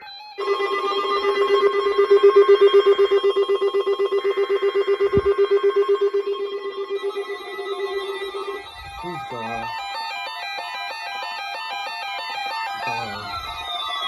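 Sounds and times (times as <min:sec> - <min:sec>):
buzzy pulsing alarm tone: 0:00.4 - 0:14.0.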